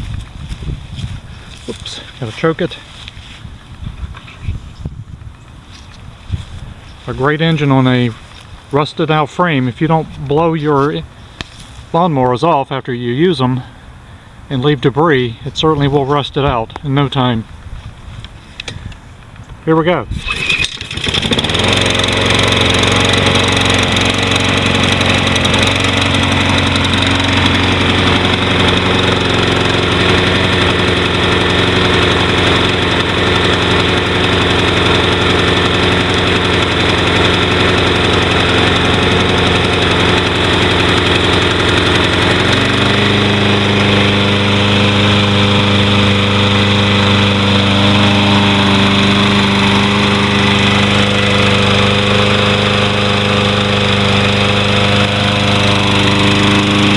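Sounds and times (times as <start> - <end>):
lawn mower engine running: 0.0 - 12.0, 16.2 - 56.9.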